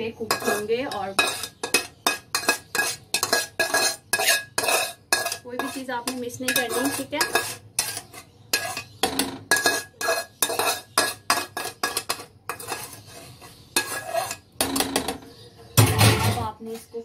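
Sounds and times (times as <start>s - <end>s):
metal spoon scraping metal pan: 0.0s - 15.2s.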